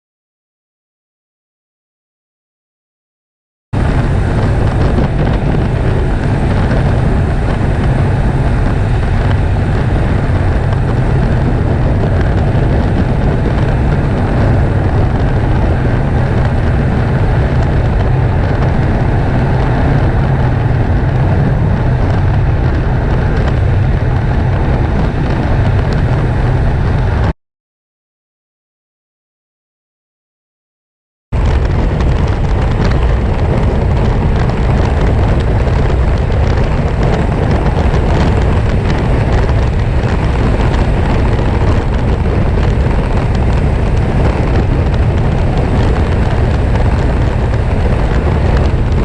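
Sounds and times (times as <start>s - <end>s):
car road and drivetrain rumble: 3.7s - 27.4s, 31.3s - 49.0s.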